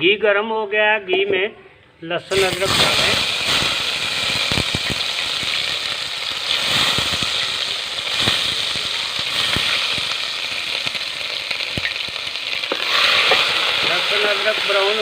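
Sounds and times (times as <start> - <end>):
garlic and ginger sizzling in oil: 2.2 - 15.0.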